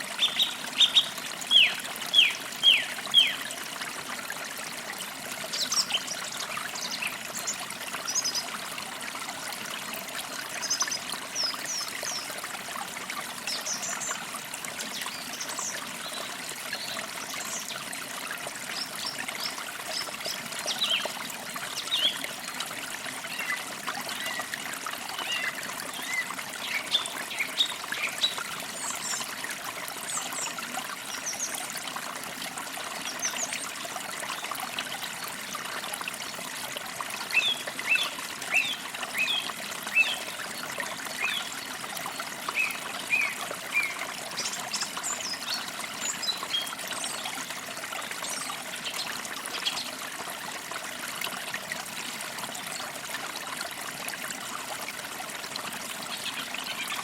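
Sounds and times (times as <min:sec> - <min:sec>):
creek trickling over stones: 0:00.0 - 0:57.0.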